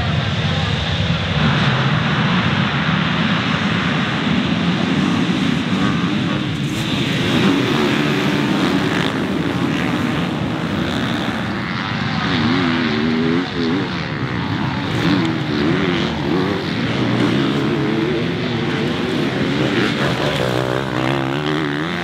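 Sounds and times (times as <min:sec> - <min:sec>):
motocross engines revving: 0:01.3 - 0:22.0.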